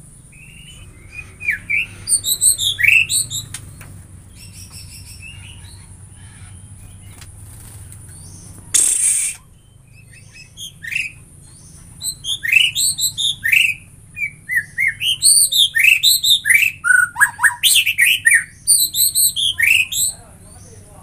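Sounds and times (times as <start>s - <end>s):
bird singing whistled notes: 0.2s - 5.8s, 8.1s - 20.8s.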